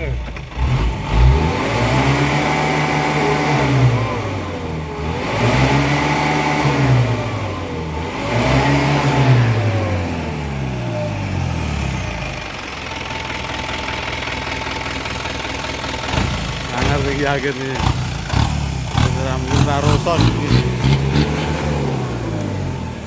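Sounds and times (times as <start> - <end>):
diesel truck engine revving: 0.0 - 23.0.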